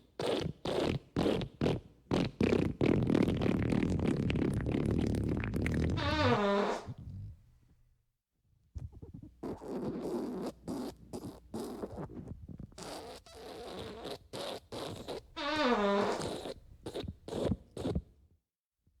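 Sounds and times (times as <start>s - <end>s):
farts: 0.1s - 7.4s, 8.8s - 18.1s.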